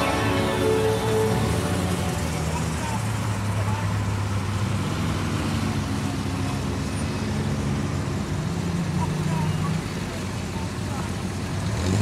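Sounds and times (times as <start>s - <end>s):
car engines humming: 0.0s - 12.0s
tyre and road noise: 0.0s - 12.0s.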